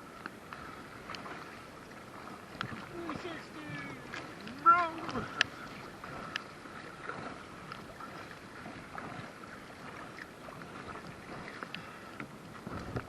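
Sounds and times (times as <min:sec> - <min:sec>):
river water burbling around kayak: 0:00.0 - 0:13.0
small water splashes and drips: 0:00.0 - 0:13.0.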